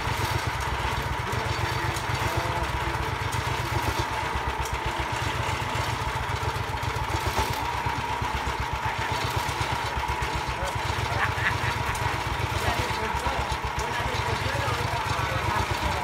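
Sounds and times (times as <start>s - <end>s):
sawmill engine pulsing: 0.0s - 16.0s.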